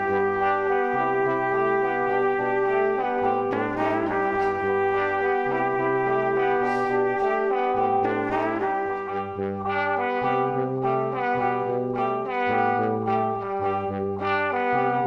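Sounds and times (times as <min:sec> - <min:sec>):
background music with held chords: 0:00.0 - 0:15.0.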